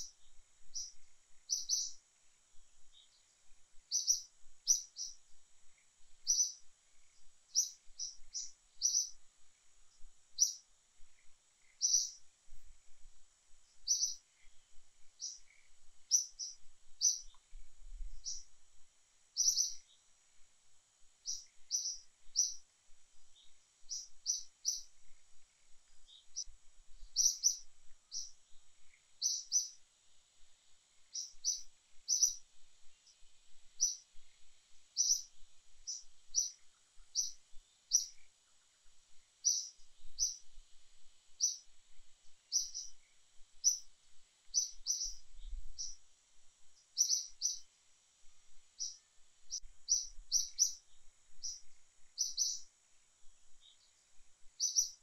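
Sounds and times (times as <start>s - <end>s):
small bird chirping: 0.0s - 55.0s
steady high-pitched buzz: 0.0s - 55.0s.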